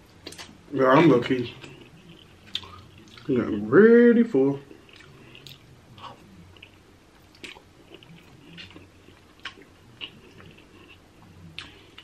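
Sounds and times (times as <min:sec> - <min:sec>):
chewing and smacking: 0:00.2 - 0:00.6, 0:01.2 - 0:03.4, 0:04.7 - 0:12.0.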